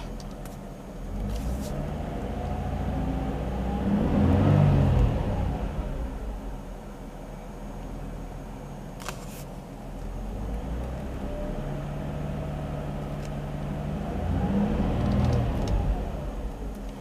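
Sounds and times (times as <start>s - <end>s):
car engine running and revving: 0.0s - 9.2s, 9.8s - 17.0s.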